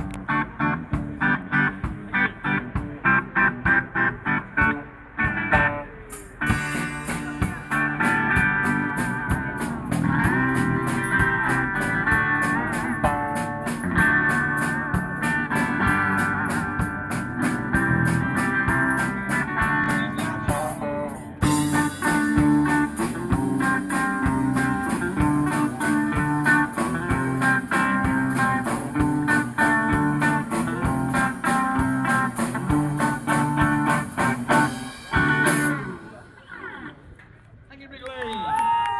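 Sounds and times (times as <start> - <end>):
drum kit beat: 0.0 - 36.0
electric guitars: 0.0 - 36.4.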